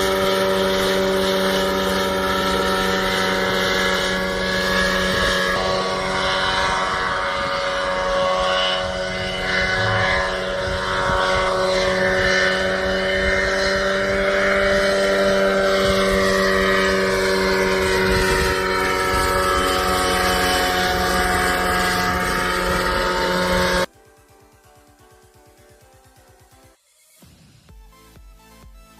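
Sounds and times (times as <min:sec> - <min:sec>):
rushing wind-like noise: 0:00.0 - 0:23.9
helicopter engine running: 0:00.0 - 0:26.8.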